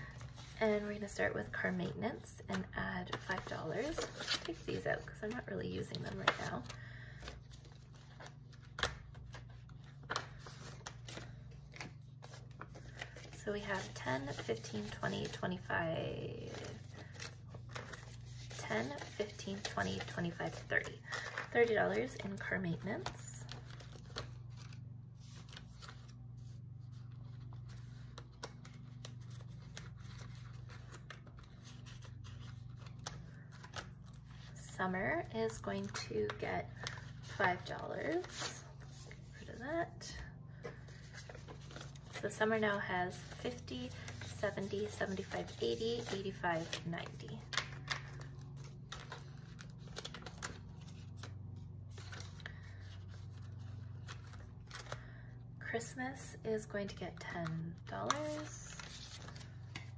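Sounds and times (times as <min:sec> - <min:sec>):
steady low hum: 0:00.0 - 0:59.9
paper and banknote rustling: 0:02.5 - 0:55.2, 0:57.4 - 0:59.9.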